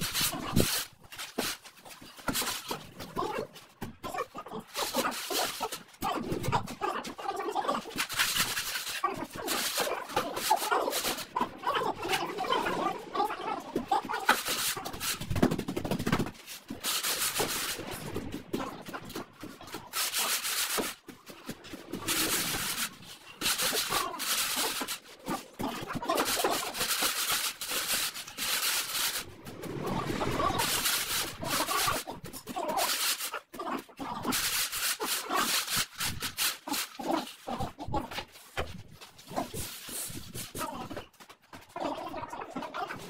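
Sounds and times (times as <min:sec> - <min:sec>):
straightedge scraping wet screed: 0:04.6 - 0:15.3, 0:16.3 - 0:41.0.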